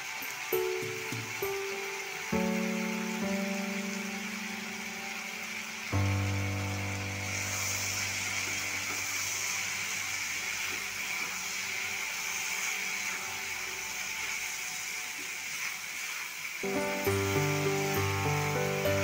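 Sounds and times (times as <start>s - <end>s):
background music: 0.0s - 19.0s
food sizzling in hot oil: 0.0s - 19.0s.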